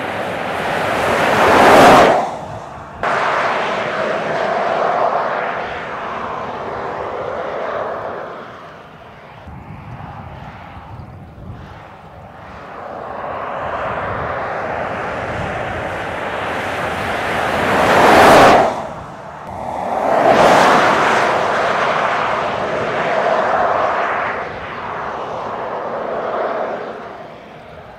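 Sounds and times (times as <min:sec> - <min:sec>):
car driving past at speed: 0:00.0 - 0:09.5, 0:12.4 - 0:27.8.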